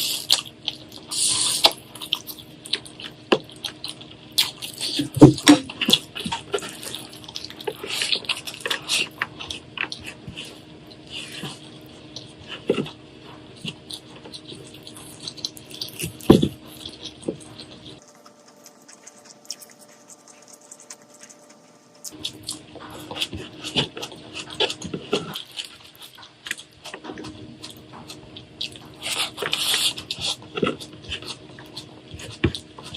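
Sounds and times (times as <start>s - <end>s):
wet chewing and smacking: 0.0s - 32.9s.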